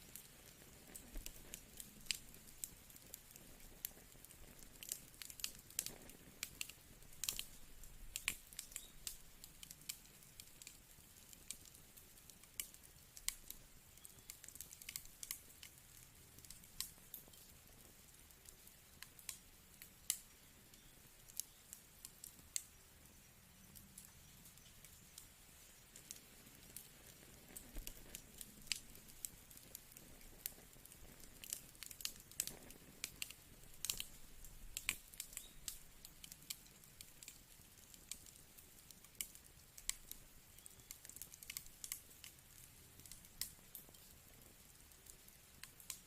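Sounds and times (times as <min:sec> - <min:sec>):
faint steady hiss: 0:00.0 - 0:46.0
fire crackling and popping: 0:00.0 - 0:46.0.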